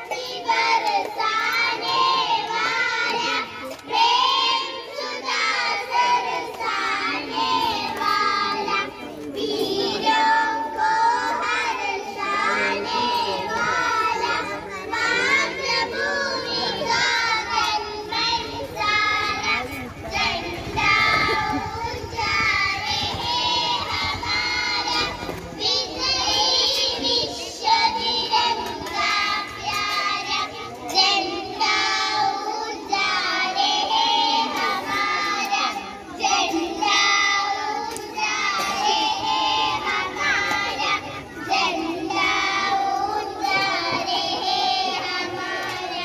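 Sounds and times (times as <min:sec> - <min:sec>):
children singing together: 0:00.0 - 0:46.0.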